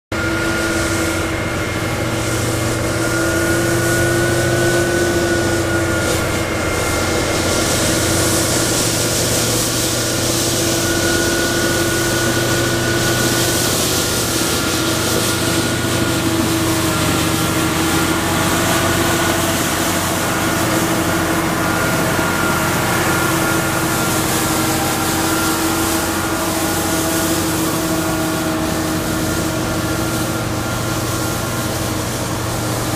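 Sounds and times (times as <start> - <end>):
diesel engine with whine: 0.0 - 32.9
hiss of brushed snow: 0.4 - 32.9.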